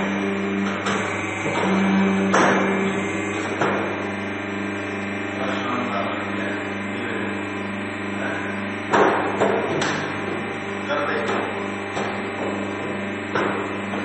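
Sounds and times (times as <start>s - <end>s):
machine humming: 0.0s - 14.0s.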